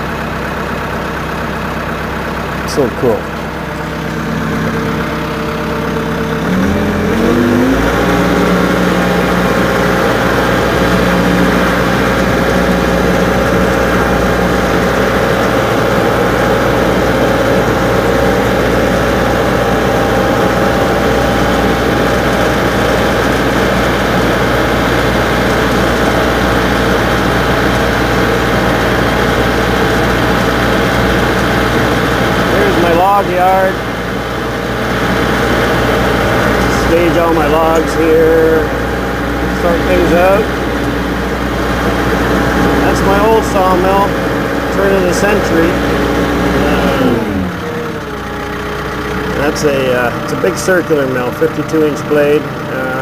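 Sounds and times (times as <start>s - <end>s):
tractor engine idling and revving: 0.0s - 53.0s.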